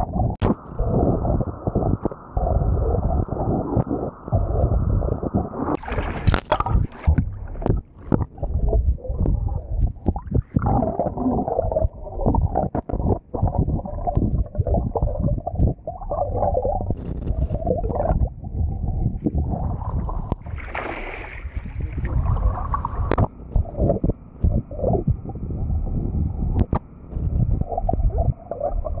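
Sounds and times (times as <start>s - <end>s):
knocks and clicks underwater: 0.0s - 25.4s, 26.5s - 29.0s
muffled rushing water underwater: 0.0s - 29.0s.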